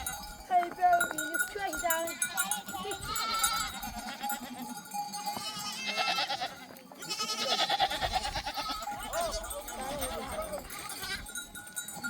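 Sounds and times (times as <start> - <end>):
animals bleating: 0.0 - 12.0.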